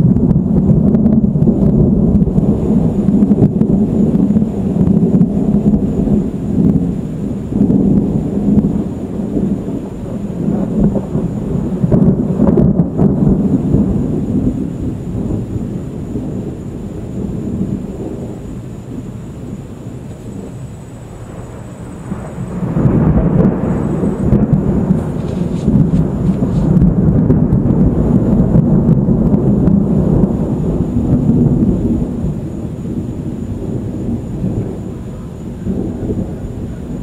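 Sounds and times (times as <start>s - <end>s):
rolling thunder: 0.0s - 37.0s.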